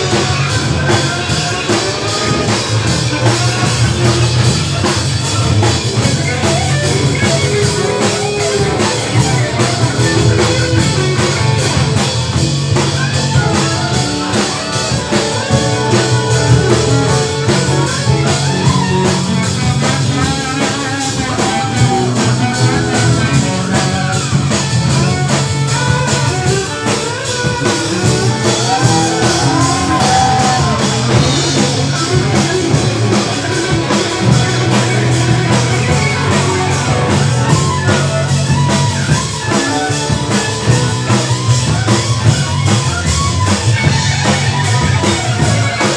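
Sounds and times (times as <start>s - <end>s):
jazz rock band playing: 0.0s - 45.9s.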